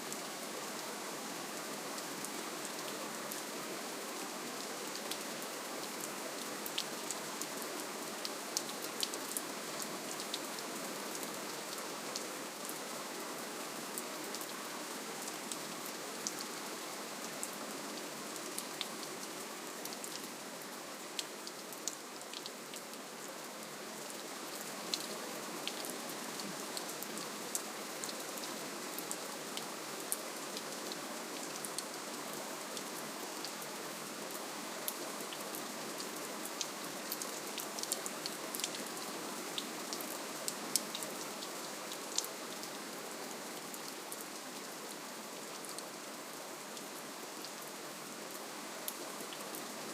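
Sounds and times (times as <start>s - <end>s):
gentle rainfall hiss: 0.0s - 49.9s.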